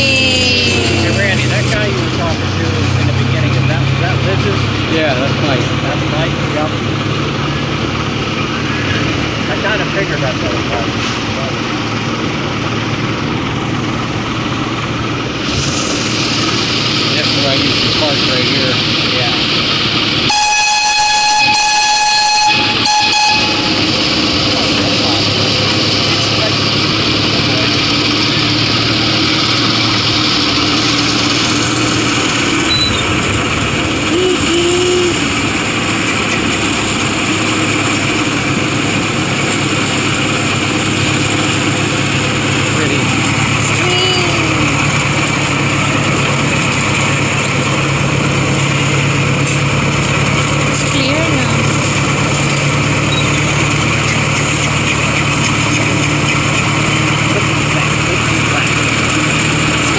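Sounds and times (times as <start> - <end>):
miniature train engine running: 0.0 - 2.8, 9.4 - 59.9.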